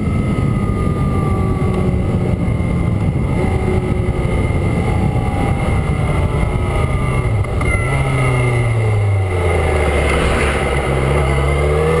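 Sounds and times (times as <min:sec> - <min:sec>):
motorcycle engine at speed: 0:00.0 - 0:12.0
wind noise: 0:00.0 - 0:12.0.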